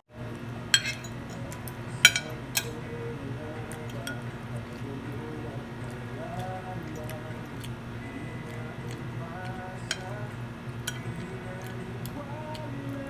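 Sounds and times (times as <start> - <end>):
background music: 0.2 - 13.0
cutlery clinking on a plate: 0.6 - 3.1, 3.7 - 7.7, 8.4 - 12.6.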